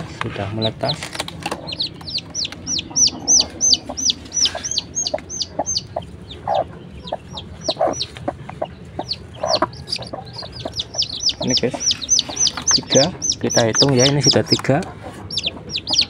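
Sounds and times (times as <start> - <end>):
chicks peeping shrilly: 0.0 - 16.0
hen clucking: 0.0 - 16.0.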